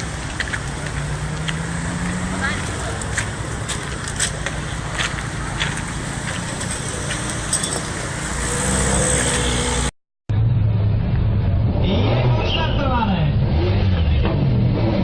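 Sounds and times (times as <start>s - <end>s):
road vehicle rushing: 0.0s - 15.0s.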